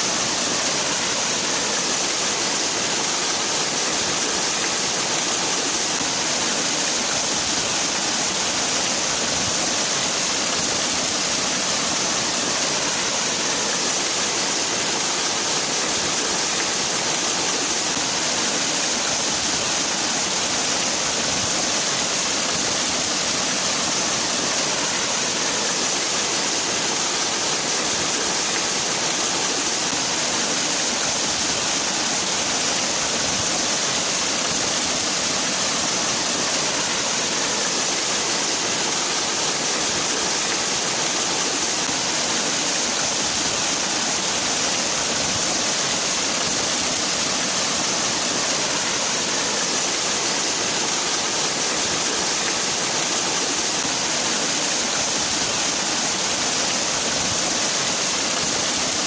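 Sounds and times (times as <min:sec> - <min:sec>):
waterfall hissing: 0:00.0 - 0:59.0.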